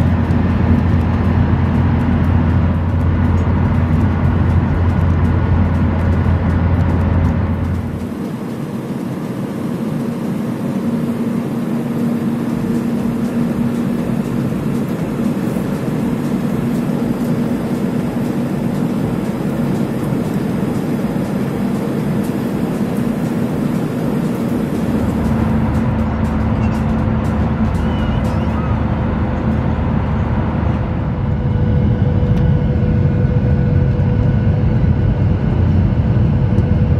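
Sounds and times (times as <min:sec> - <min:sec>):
airplane cabin noise: 0:00.0 - 0:36.9.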